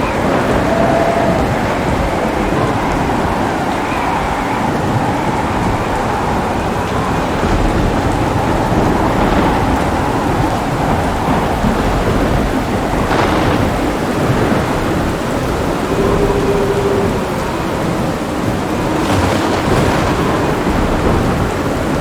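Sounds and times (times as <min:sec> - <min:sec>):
heavy rain: 0:00.0 - 0:22.0
low rolling thunder: 0:00.0 - 0:22.0.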